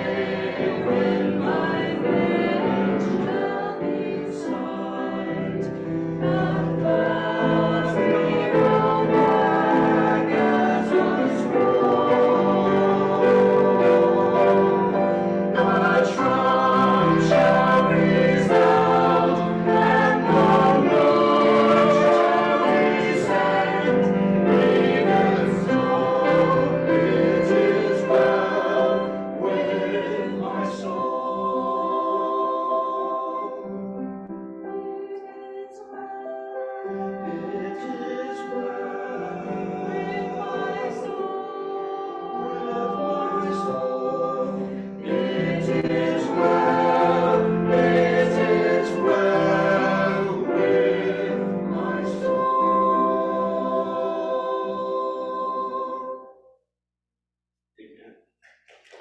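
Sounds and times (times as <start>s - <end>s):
mixed choir singing: 0.0s - 56.5s.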